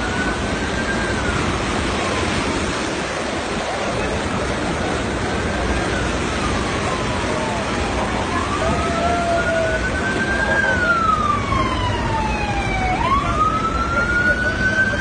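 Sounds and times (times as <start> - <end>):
emergency siren wailing: 0.0 - 15.0
steady rushing noise: 0.0 - 15.0.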